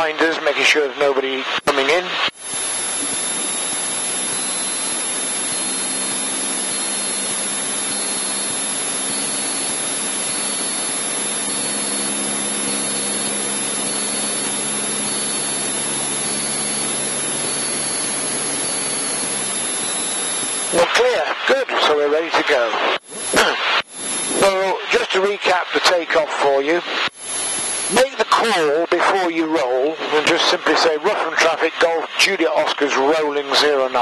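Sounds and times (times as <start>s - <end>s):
airplane engine droning: 0.0s - 33.6s.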